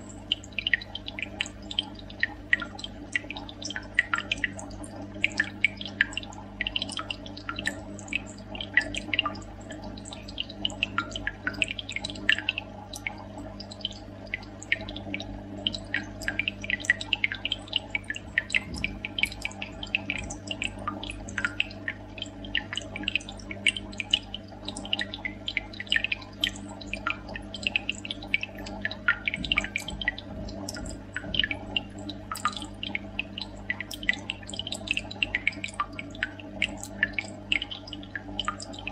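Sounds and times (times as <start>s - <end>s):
low underwater hum: 0.0s - 38.9s
underwater clicking and crackling: 0.0s - 38.9s.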